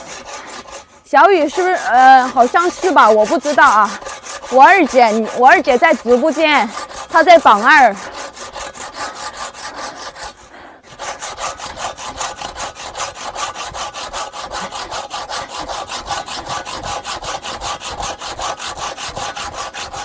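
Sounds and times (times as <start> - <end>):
hand saw cutting wood: 0.0 - 20.0.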